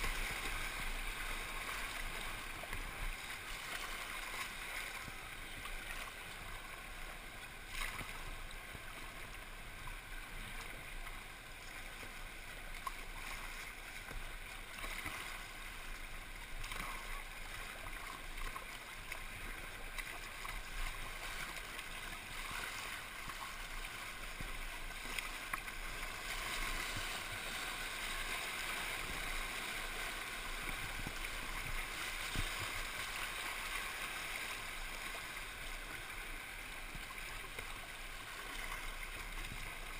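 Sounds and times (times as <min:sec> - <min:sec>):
paddle splashes: 0:00.0 - 0:39.9
river water rushing: 0:00.0 - 0:39.9.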